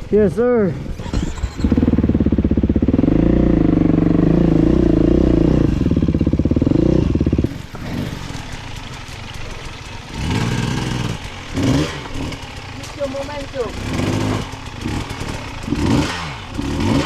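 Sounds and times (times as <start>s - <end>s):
dirt bike engine: 0.0s - 17.0s.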